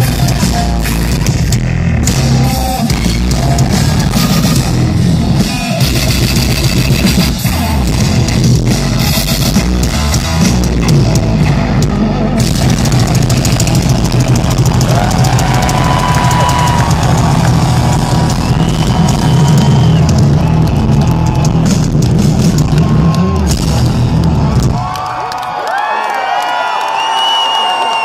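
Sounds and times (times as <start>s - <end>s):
live heavy rock band: 0.0s - 25.0s
crowd cheering and shouting: 0.0s - 28.0s.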